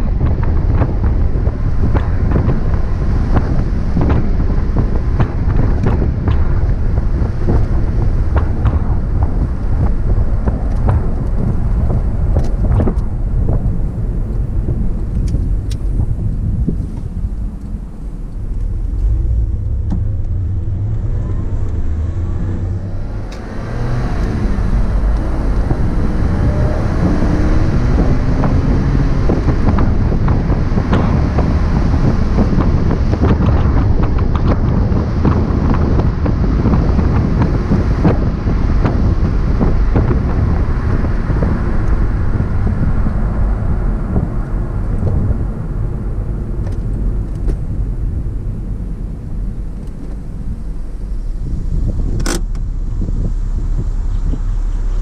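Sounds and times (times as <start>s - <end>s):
car engine accelerating: 0.0s - 55.0s
wind noise: 0.0s - 55.0s.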